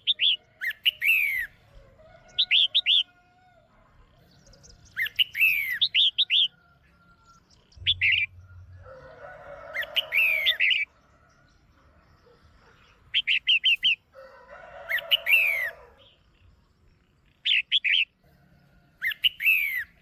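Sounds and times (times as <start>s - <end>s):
bird chirping calls: 0.0s - 3.3s, 3.9s - 14.1s, 14.9s - 20.0s.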